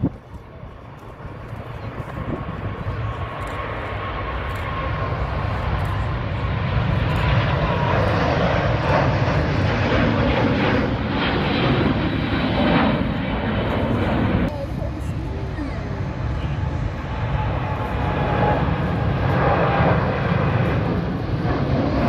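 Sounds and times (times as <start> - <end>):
jet engine whine: 0.0 - 22.0
jet engines roaring: 0.0 - 22.0.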